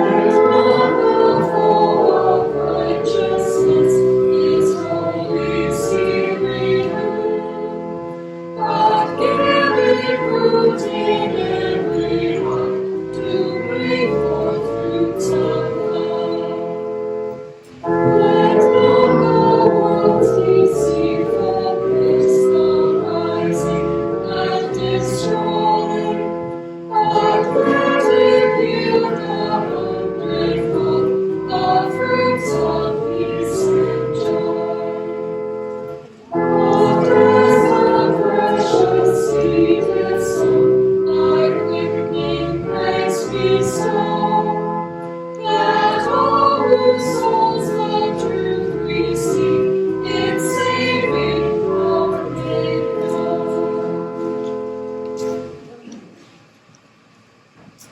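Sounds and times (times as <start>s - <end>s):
congregation singing a hymn: 0.0s - 56.0s
keyboard accompaniment: 0.0s - 57.9s.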